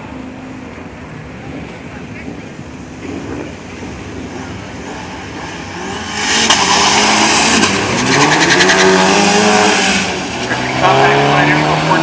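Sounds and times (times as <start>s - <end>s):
racing car engines accelerating: 0.0s - 12.0s.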